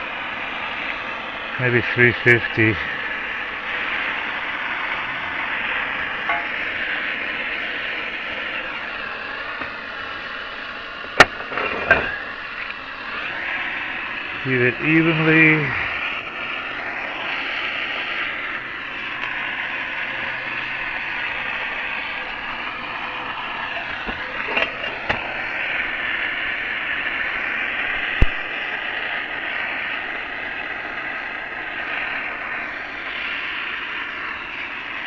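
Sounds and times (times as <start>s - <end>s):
gas torch flame hissing: 0.0s - 35.0s.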